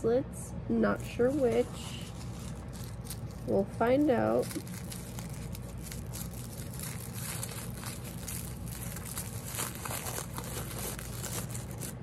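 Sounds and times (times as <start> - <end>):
steady low hum: 0.0 - 12.0
plastic packet crinkling: 1.3 - 12.0.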